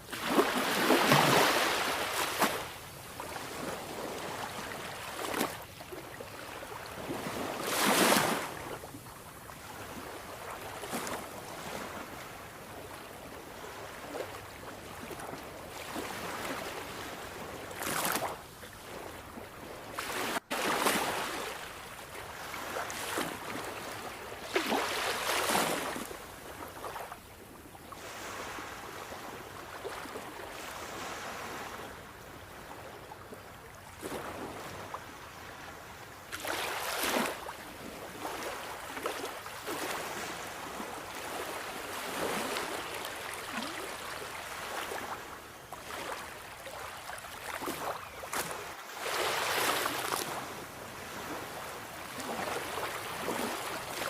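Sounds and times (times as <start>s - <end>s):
sea waves washing on shore: 0.0s - 27.2s, 34.0s - 54.0s.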